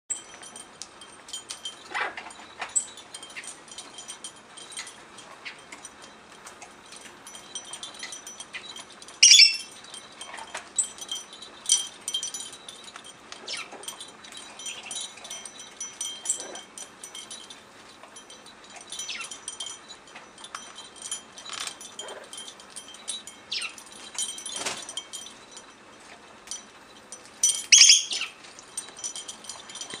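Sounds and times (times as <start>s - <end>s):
small cowbells jangling: 0.1s - 30.0s.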